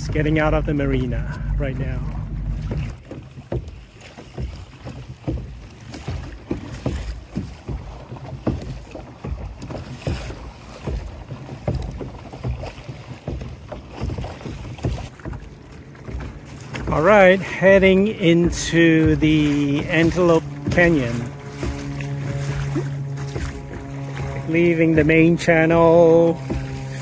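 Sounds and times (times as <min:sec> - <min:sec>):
water slapping against kayak hull: 0:00.0 - 0:27.0.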